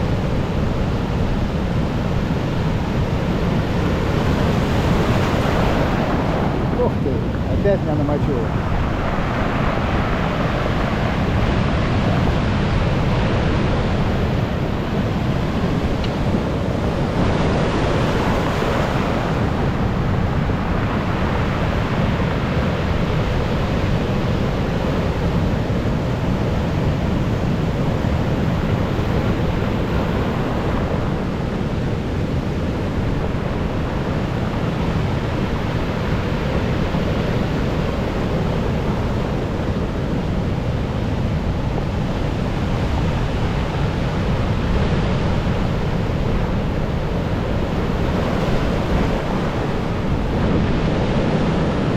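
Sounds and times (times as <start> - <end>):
stormy sea surf breaking: 0.0 - 51.9
wind buffeting microphone: 0.0 - 51.9.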